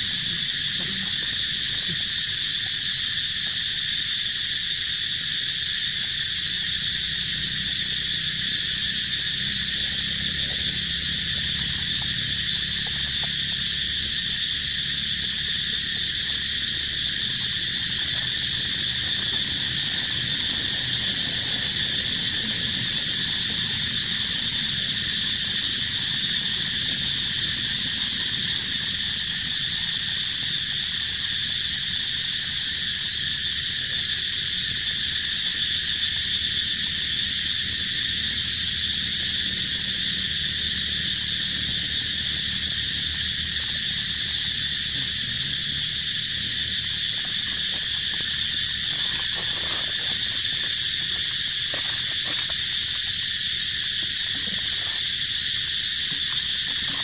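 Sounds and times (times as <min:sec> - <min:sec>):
insect chorus shrill drone: 0:00.0 - 0:57.0.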